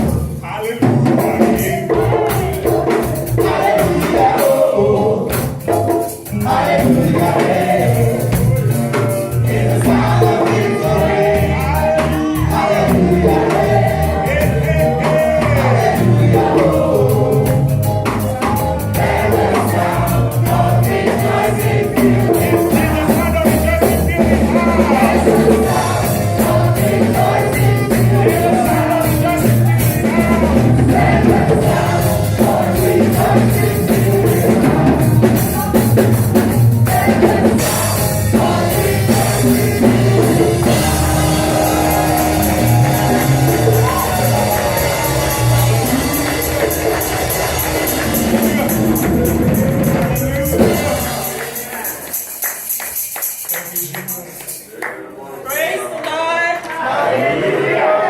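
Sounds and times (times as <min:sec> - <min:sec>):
gospel singing with live band: 0:00.0 - 0:58.0.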